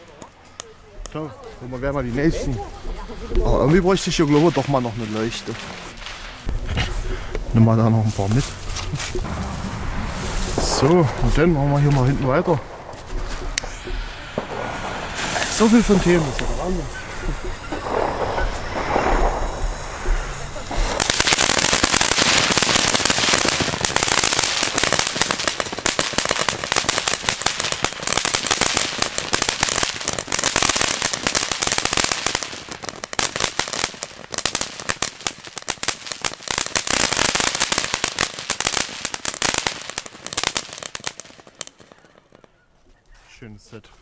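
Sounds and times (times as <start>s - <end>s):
firework fountain hissing and crackling: 0.0s - 42.5s.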